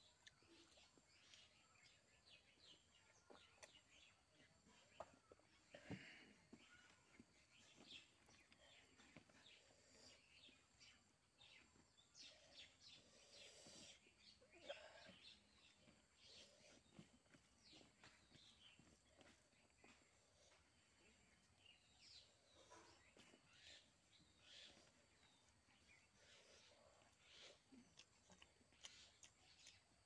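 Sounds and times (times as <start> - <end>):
eating food by hand: 0.0 - 30.0
faint birds chirping: 0.0 - 30.0.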